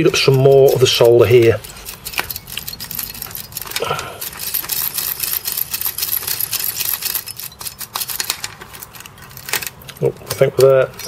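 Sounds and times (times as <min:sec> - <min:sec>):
plastic chip socket rattling: 0:00.0 - 0:11.0.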